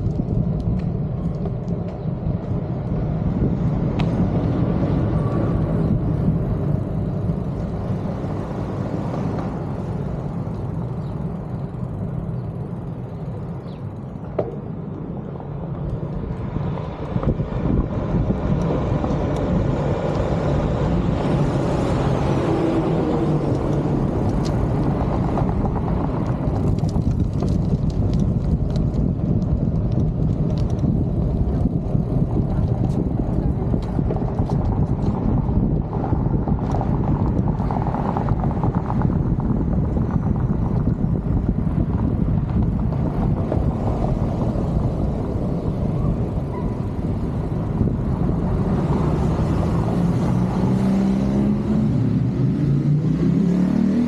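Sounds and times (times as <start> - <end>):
road traffic noise: 0.0 - 54.0
wind rumble on microphone: 0.0 - 54.0.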